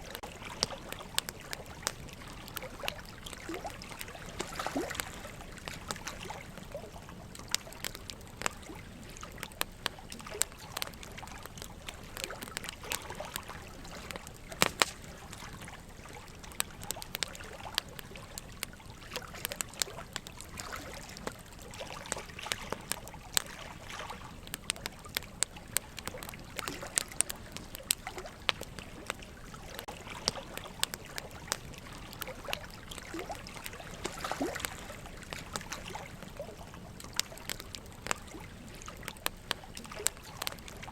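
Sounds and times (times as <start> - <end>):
trickle of running water: 0.0 - 40.9
wood fire crackling and popping: 0.0 - 40.9.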